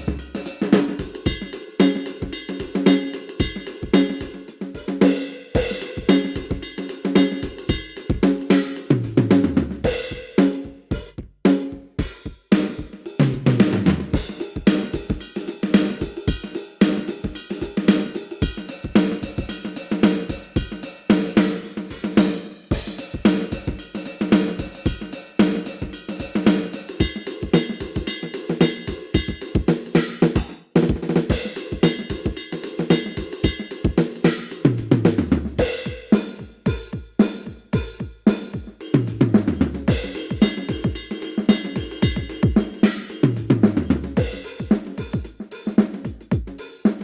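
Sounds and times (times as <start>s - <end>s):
drum kit playing busy groove: 0.0s - 47.0s.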